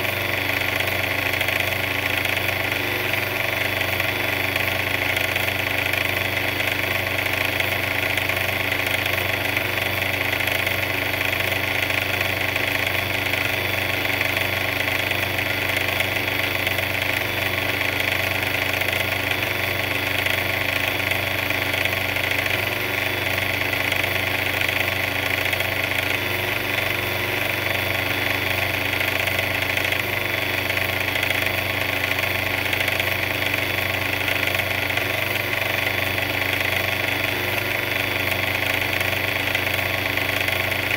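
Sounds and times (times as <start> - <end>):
mixer motor humming: 0.0 - 40.9.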